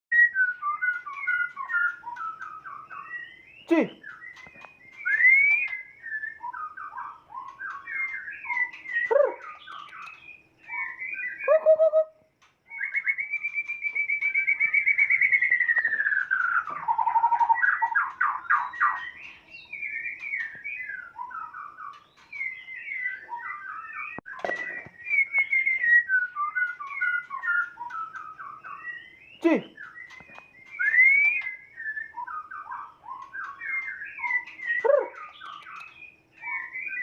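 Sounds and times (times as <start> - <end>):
bird singing whistled phrases: 0.1 - 37.0.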